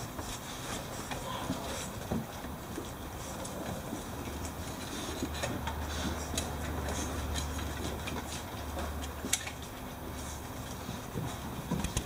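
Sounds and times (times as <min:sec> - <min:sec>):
puppy claws clicking on wood floor: 0:00.1 - 0:12.0.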